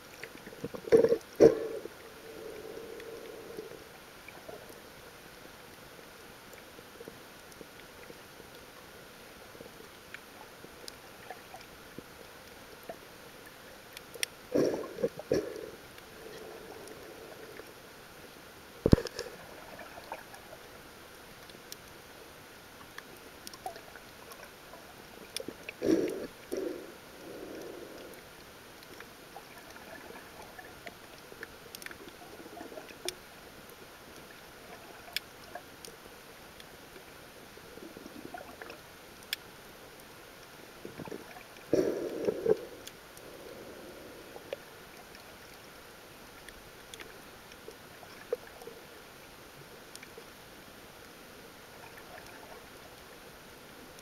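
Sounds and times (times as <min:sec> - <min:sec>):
underwater gurgling: 0:00.0 - 0:05.8, 0:09.4 - 0:21.7, 0:22.8 - 0:39.4, 0:40.3 - 0:49.0, 0:51.7 - 0:54.0
faint underwater hiss: 0:00.0 - 0:54.0.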